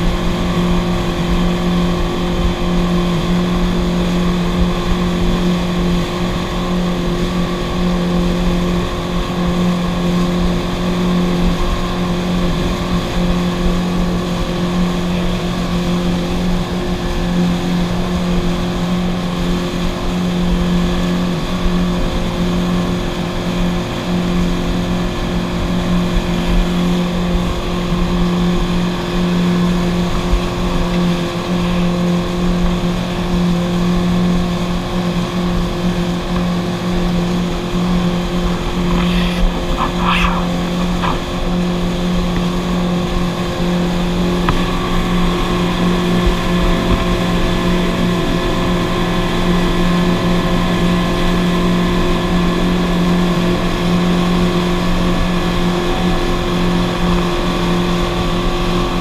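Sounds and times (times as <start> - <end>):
motorboat engine drone: 0.0 - 59.0.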